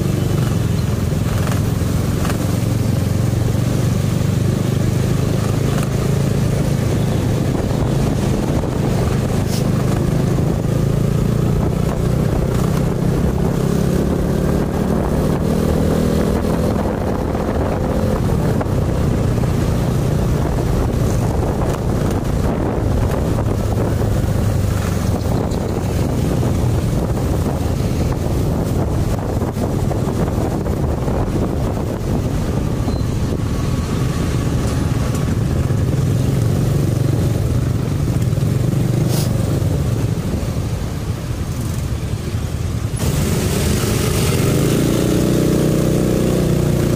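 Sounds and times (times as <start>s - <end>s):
scooter engine running: 0.0s - 46.9s
wind buffeting microphone: 0.0s - 46.9s.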